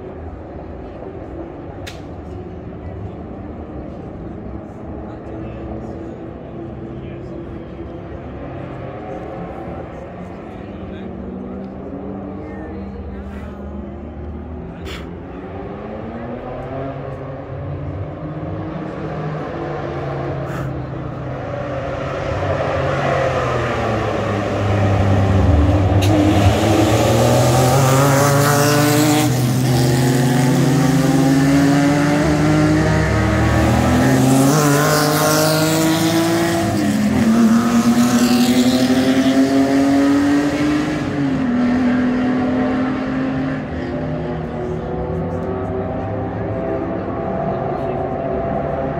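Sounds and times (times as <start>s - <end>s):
racing cars accelerating past: 0.1s - 48.9s.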